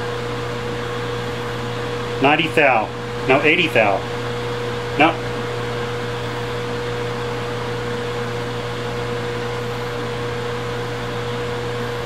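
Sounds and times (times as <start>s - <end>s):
milling machine humming and whining: 0.0s - 12.0s.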